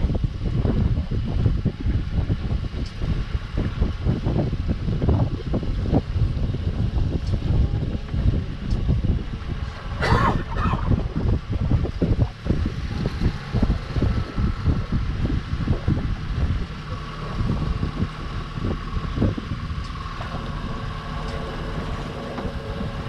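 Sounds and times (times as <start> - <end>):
boat engine droning: 0.0 - 23.0
wind buffeting microphone: 0.0 - 23.0.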